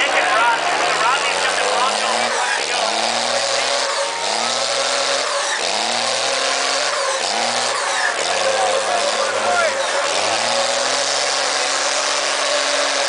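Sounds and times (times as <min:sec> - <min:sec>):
crowd din: 0:00.0 - 0:13.0
engine revving: 0:00.0 - 0:13.0.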